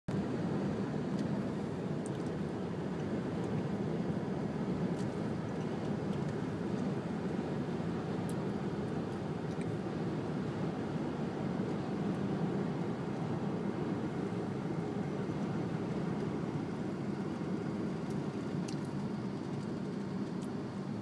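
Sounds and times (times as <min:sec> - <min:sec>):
car cabin road and engine noise: 0:00.1 - 0:21.0.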